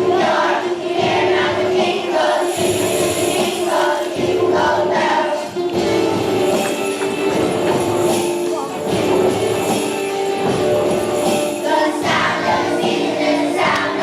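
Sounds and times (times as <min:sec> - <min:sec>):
children's choir singing: 0:00.0 - 0:14.0
musical accompaniment: 0:00.0 - 0:14.0.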